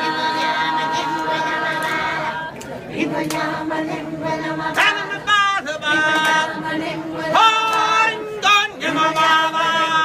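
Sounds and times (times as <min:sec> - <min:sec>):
people singing a cappella in harmony: 0:00.0 - 0:10.0.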